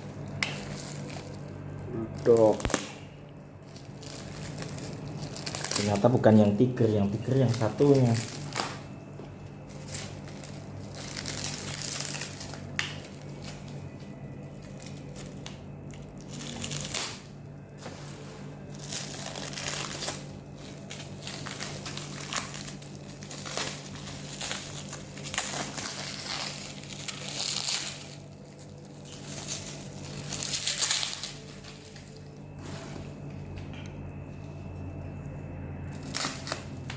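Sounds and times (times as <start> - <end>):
packaging crinkling and rustling: 0.0 - 36.9
steady low hum: 0.0 - 36.9.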